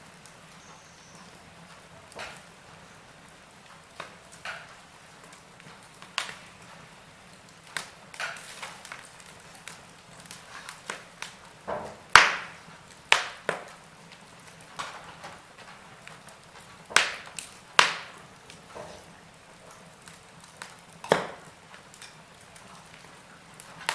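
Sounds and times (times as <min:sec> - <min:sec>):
faint steady hiss: 0:00.0 - 0:23.9
fireplace fire crackling: 0:00.0 - 0:23.9.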